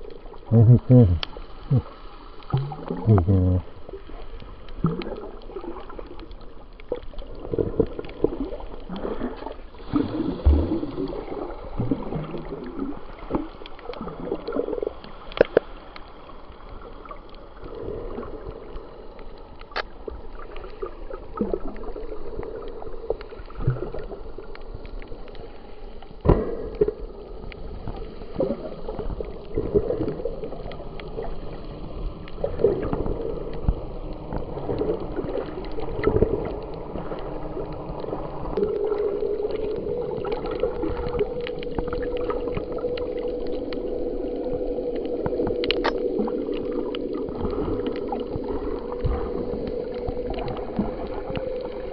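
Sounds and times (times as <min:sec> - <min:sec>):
underwater sloshing and gurgling: 0:00.0 - 0:51.9.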